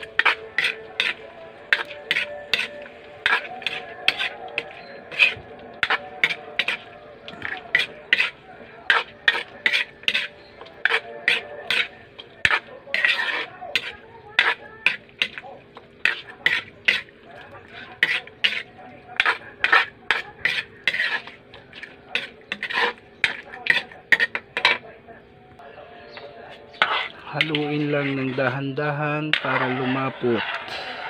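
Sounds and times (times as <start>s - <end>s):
spatula scraping a wok: 0.0s - 25.0s, 26.0s - 31.0s.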